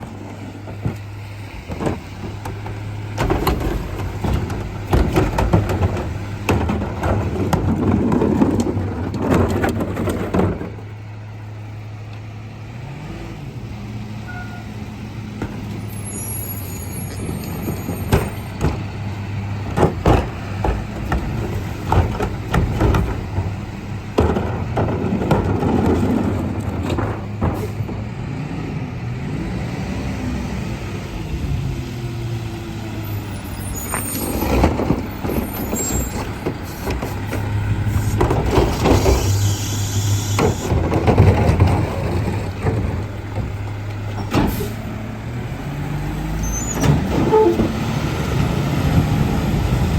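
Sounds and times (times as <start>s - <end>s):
trash and bins banging: 0.0s - 11.4s, 15.2s - 28.5s, 33.0s - 49.9s
garbage truck engine running: 0.0s - 49.9s.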